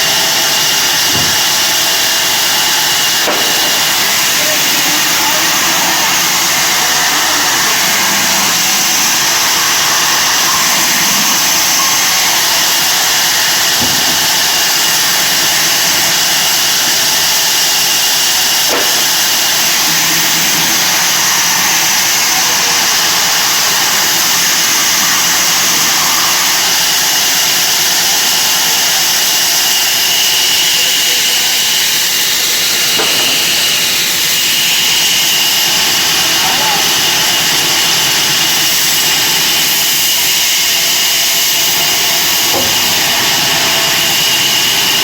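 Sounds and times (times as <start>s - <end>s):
bandsaw running: 0.0s - 45.0s.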